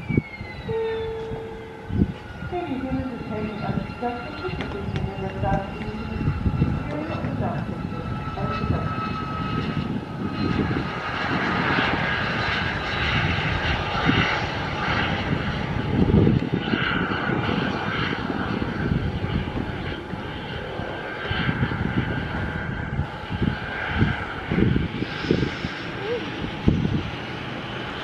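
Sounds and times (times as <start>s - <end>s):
jet engine rushing: 0.0s - 28.0s
thin engine whine: 0.0s - 28.0s.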